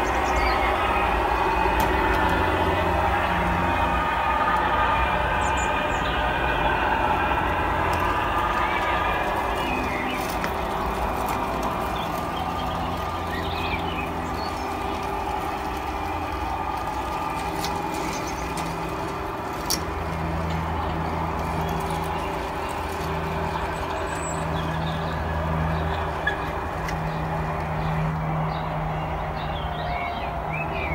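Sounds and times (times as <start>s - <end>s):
model train engine drone: 0.0s - 30.9s
wheels clicking on track: 0.0s - 30.9s.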